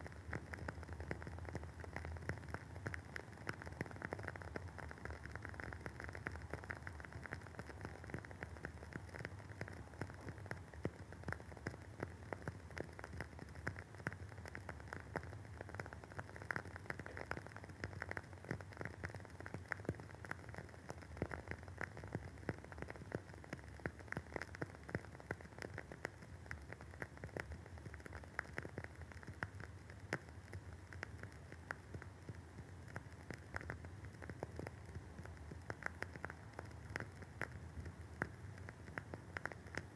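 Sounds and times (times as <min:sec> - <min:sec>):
candle wick crackling: 0:00.2 - 0:39.9.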